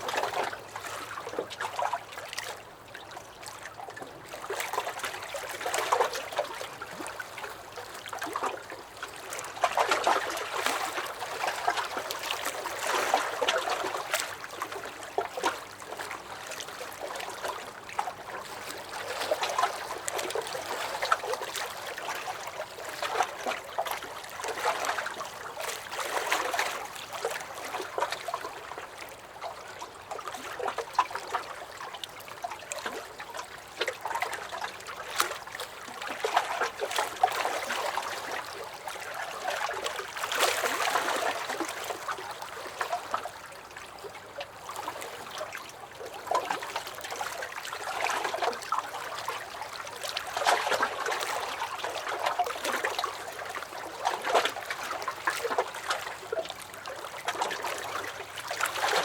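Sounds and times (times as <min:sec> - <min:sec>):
waves lapping against a dock: 0:00.0 - 0:59.0.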